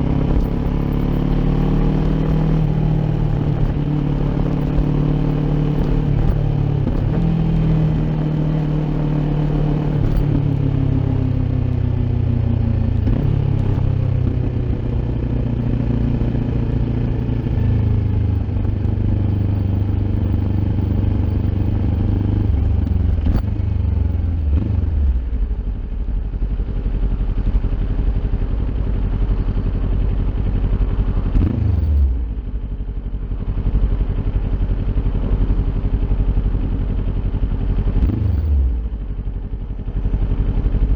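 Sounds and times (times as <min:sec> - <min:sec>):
motorcycle engine revving: 0:00.0 - 0:32.8, 0:33.4 - 0:40.9.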